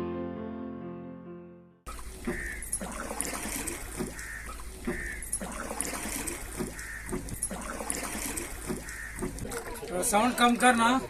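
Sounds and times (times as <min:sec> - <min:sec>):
oars pulling through water: 0:01.9 - 0:11.0
water splashing and trickling: 0:01.9 - 0:11.0.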